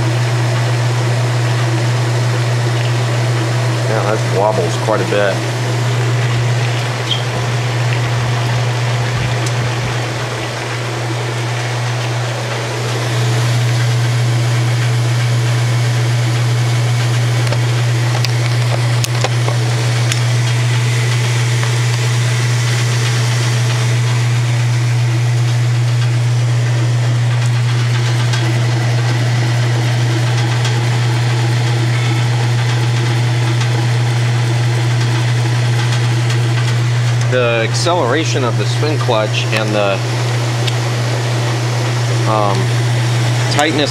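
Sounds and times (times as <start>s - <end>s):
washing machine spin cycle hum: 0.0s - 43.9s.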